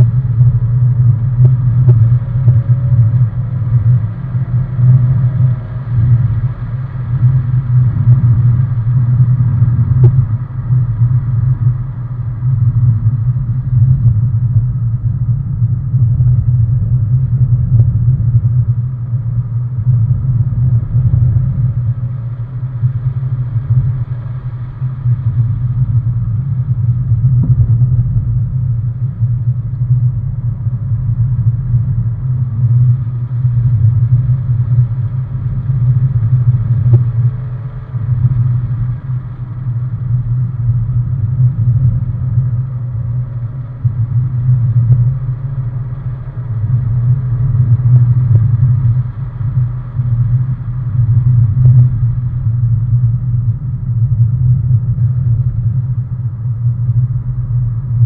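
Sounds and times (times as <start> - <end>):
car engine drone inside cabin: 0.0 - 58.0.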